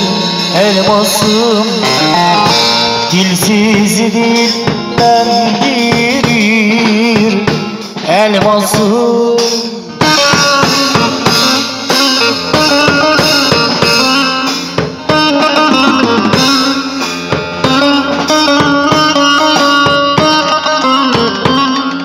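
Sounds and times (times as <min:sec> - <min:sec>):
drum kit beat: 0:00.0 - 0:22.0
electric saz melody: 0:00.0 - 0:22.0.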